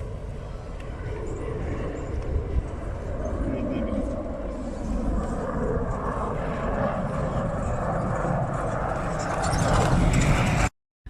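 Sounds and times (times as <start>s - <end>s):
military aircraft roar: 0.0s - 10.7s.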